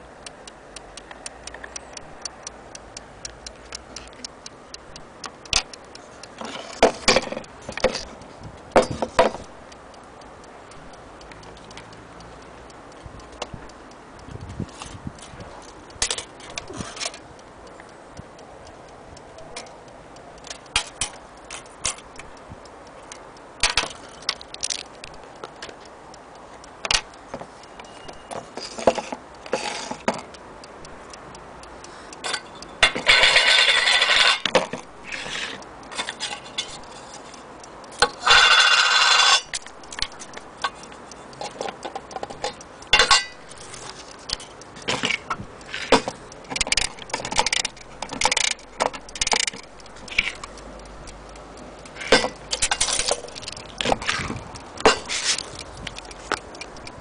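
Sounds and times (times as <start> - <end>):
mantel clock ticking: 0.0 - 57.0.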